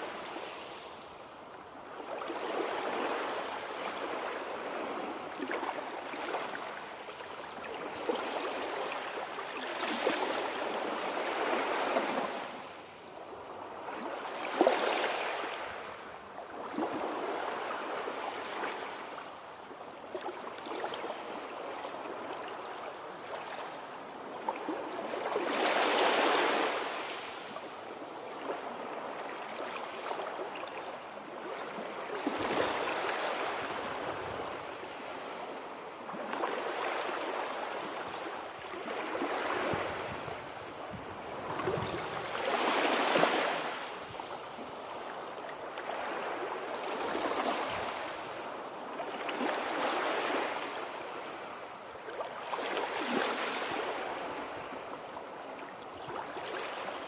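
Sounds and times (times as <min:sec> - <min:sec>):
sea waves breaking on shore: 0:00.0 - 0:19.2, 0:20.1 - 0:57.0.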